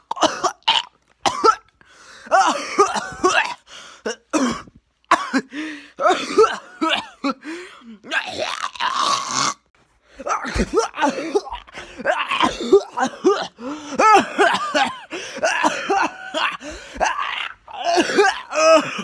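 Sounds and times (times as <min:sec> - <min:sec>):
person coughing: 0:00.0 - 0:07.5, 0:10.2 - 0:19.0
person groaning and gagging: 0:02.3 - 0:19.0.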